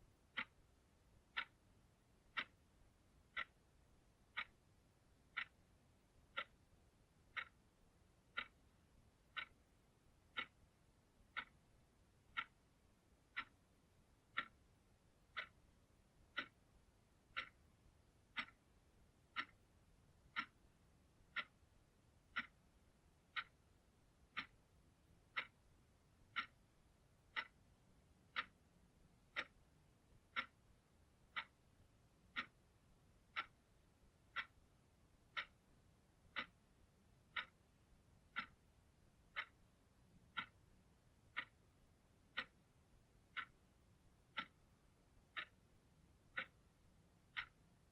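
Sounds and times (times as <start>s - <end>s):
clock ticking: 0.0s - 47.9s.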